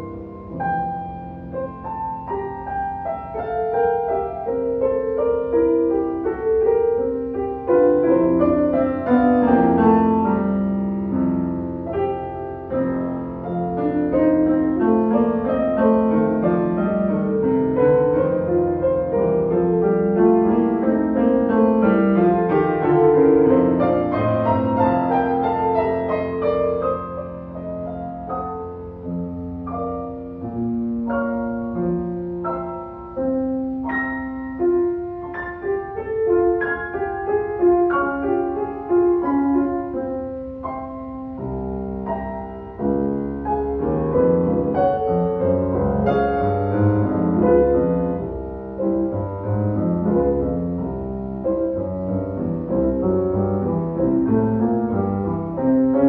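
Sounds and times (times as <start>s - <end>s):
two pianos playing together: 0.0s - 56.0s.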